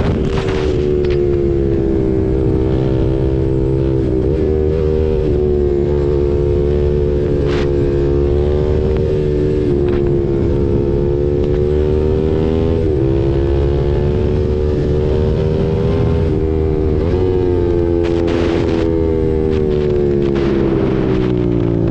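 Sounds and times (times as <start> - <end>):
motorcycle engine cruising: 0.0 - 21.9
wind noise on microphone: 0.0 - 21.9.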